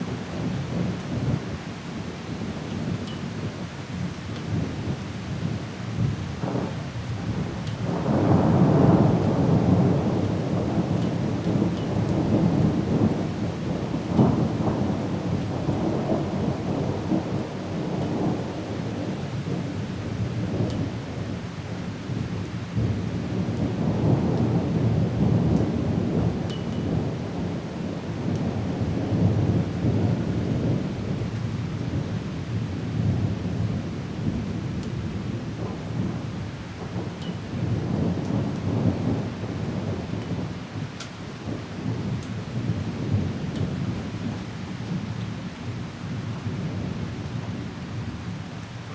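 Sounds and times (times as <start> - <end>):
steady rain: 0.0 - 48.9
rolling thunder: 4.5 - 21.4, 22.1 - 45.2.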